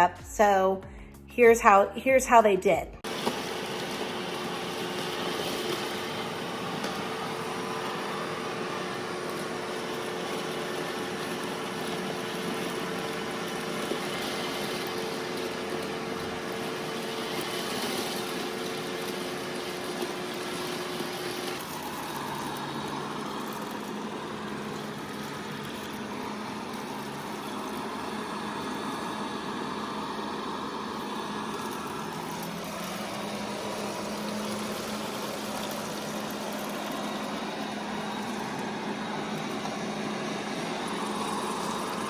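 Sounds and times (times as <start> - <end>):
robot vacuum whirring: 3.1 - 42.0.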